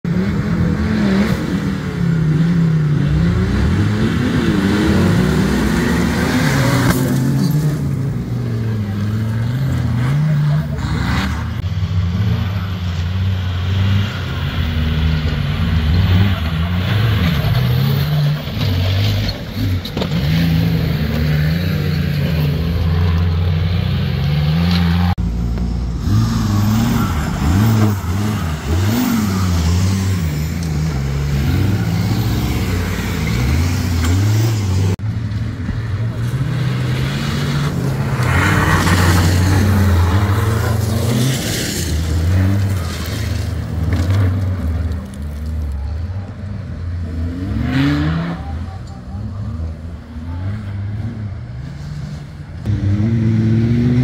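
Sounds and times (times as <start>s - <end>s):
off-road engine revving: 0.0s - 54.0s.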